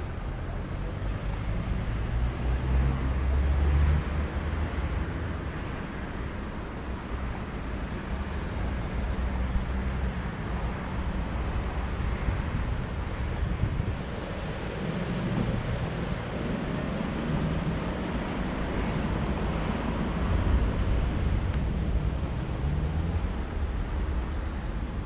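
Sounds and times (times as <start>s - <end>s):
passing cars rumble: 0.0s - 25.0s.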